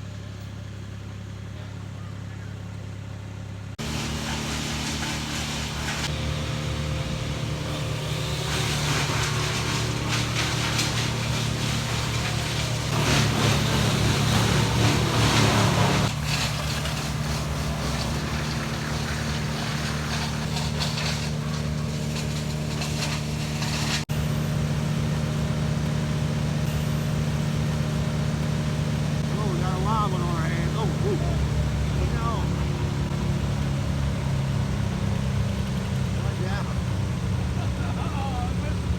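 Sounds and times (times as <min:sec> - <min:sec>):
motor engine running: 0:00.0 - 0:38.9.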